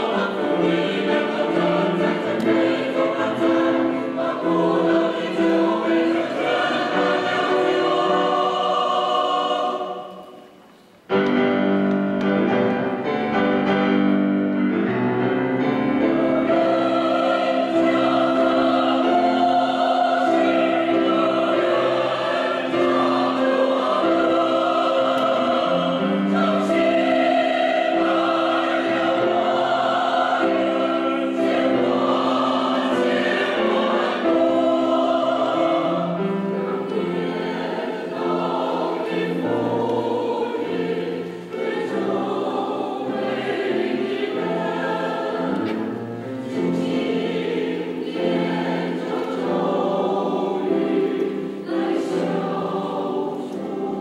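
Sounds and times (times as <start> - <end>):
mixed choir singing: 0.0 - 10.7, 11.6 - 54.0.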